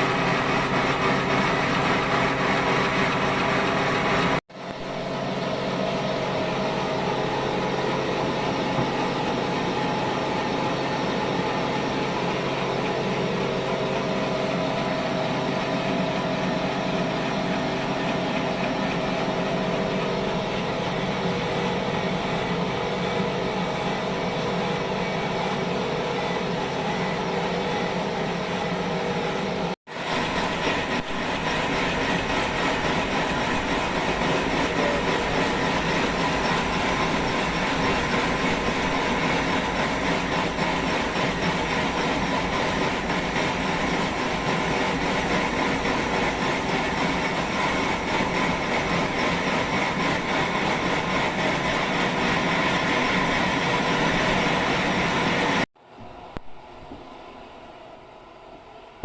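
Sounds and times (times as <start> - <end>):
sawmill machine humming: 0.0 - 55.7.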